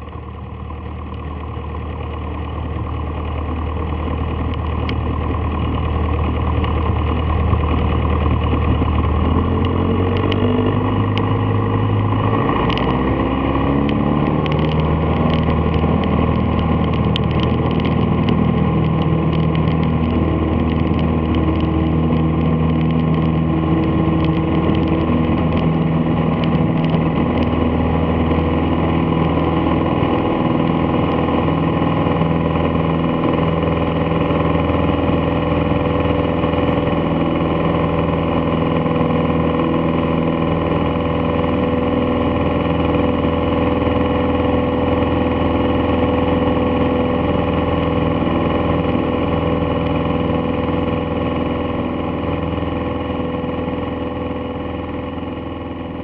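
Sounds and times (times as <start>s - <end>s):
propeller plane engine at take-off: 0.0s - 56.0s.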